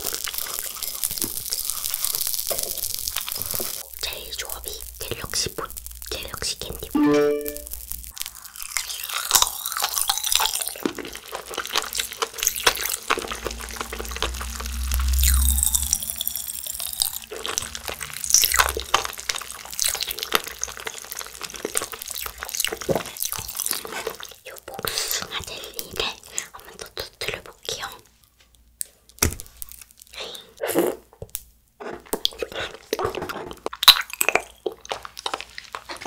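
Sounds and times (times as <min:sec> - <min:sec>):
chewing: 0:00.0 - 0:06.9, 0:08.2 - 0:27.5, 0:31.9 - 0:36.0
popping candy crackling: 0:00.0 - 0:27.9, 0:28.8 - 0:36.0.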